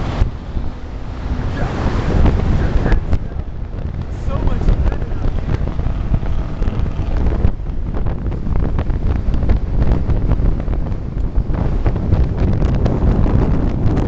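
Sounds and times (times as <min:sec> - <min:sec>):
vehicle engine revving: 0:00.0 - 0:14.0
wind buffeting microphone: 0:00.0 - 0:14.0.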